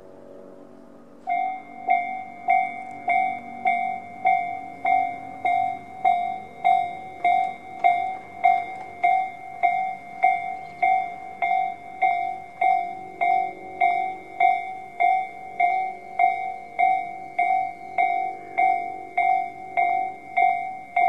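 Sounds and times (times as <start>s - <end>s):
level crossing warning bell: 0.0s - 21.0s.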